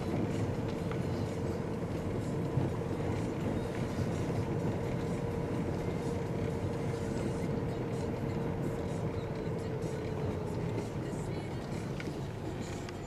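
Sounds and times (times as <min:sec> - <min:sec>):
car engine running: 0:00.0 - 0:13.0
tyres rumbling on brick paving: 0:00.0 - 0:13.0.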